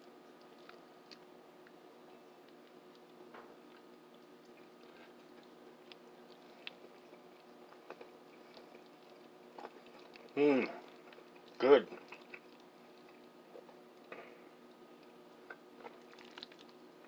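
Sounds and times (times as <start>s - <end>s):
chewing spaghetti: 0.0s - 17.0s
steady low hum: 0.0s - 17.0s.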